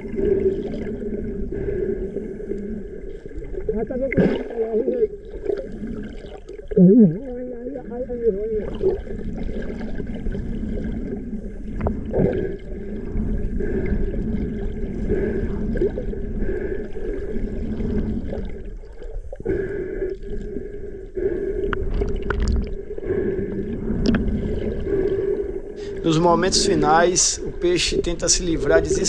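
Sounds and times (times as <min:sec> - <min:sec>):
underwater droning hum: 0:00.0 - 0:29.0
water gurgling: 0:00.0 - 0:29.0.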